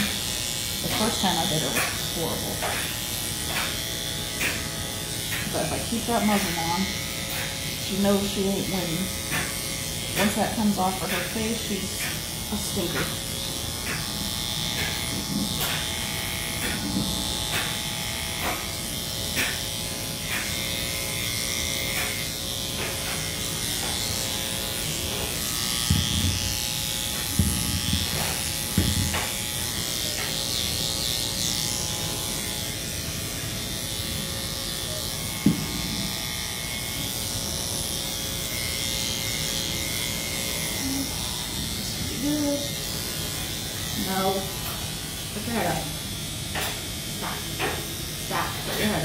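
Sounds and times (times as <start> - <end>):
electric clippers running: 0.0 - 49.0.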